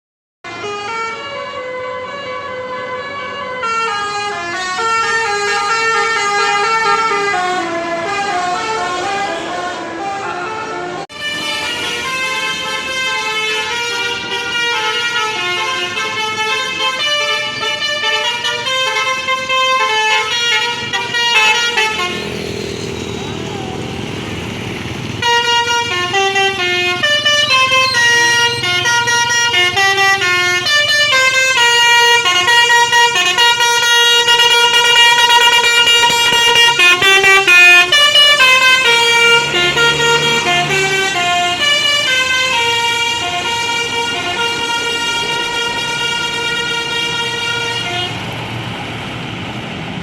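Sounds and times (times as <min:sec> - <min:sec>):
bus musical horn tune: 0:00.5 - 0:22.3, 0:25.2 - 0:48.3.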